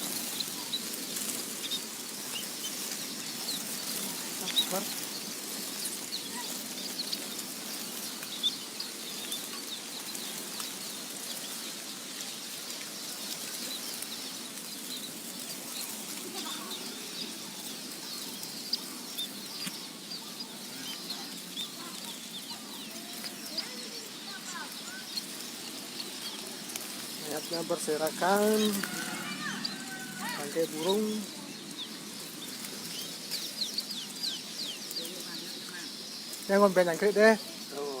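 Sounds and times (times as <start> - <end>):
sparrows chirping: 0.0 - 38.0.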